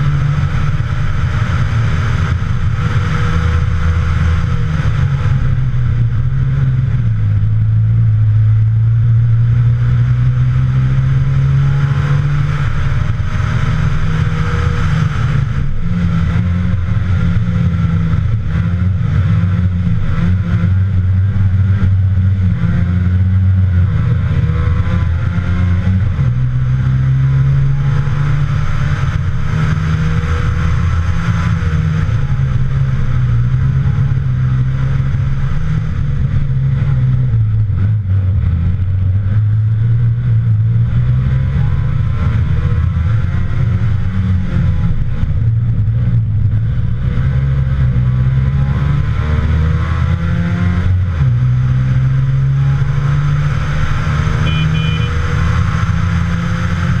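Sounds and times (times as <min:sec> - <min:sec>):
two-stroke engine driven hard: 0:00.0 - 0:57.0.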